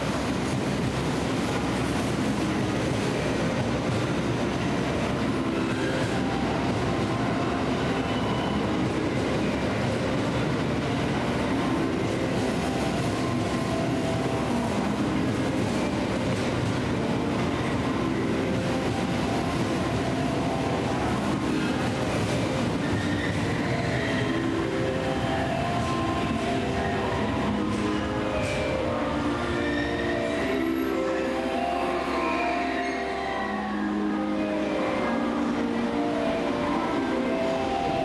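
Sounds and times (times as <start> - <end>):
train rumble and hiss: 0.0 - 38.0.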